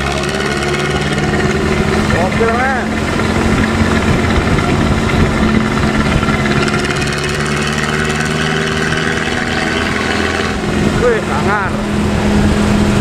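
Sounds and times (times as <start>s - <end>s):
diesel bus engine running: 0.0s - 13.0s.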